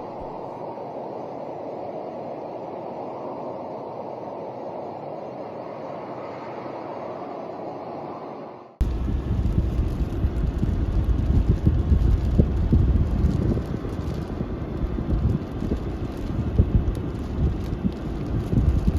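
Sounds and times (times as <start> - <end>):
strong wind buffeting microphone: 0.0 - 18.9.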